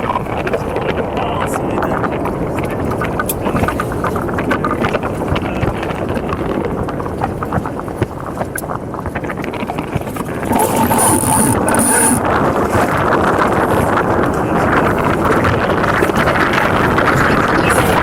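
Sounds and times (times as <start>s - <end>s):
water rushing along hulls: 0.0s - 18.0s
wind buffeting microphone: 0.0s - 18.0s.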